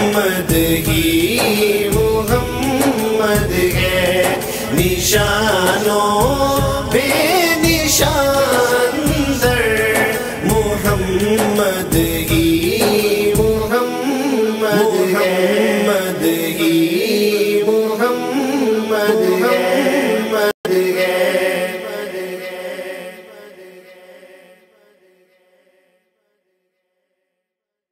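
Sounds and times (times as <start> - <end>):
layered voices chanting: 0.0 - 24.9.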